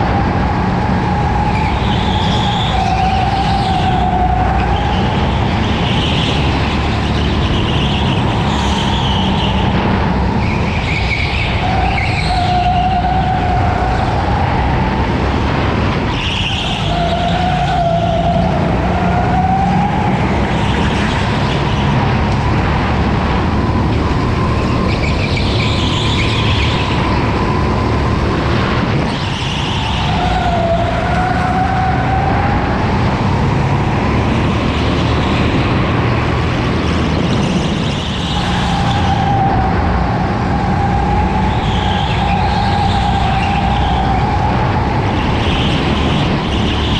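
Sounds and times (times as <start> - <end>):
go-kart motor whining: 0.0 - 46.9.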